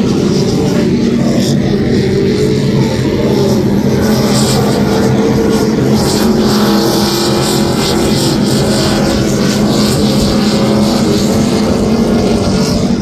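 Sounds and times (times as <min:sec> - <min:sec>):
powerboat engines running loud: 0:00.0 - 0:13.0.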